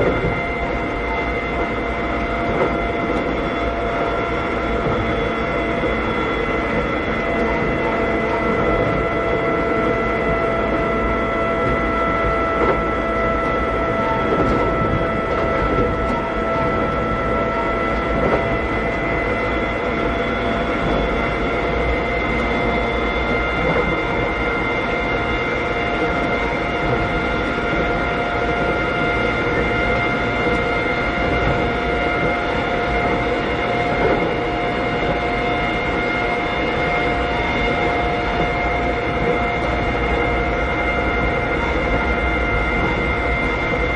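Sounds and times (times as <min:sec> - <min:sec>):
rail-joint clacks: 0:00.0 - 0:01.0, 0:01.6 - 0:10.9, 0:12.5 - 0:17.1, 0:17.9 - 0:24.3, 0:26.0 - 0:43.9
electric train motor whine: 0:00.0 - 0:43.9
wheel and track rumble: 0:00.0 - 0:43.9.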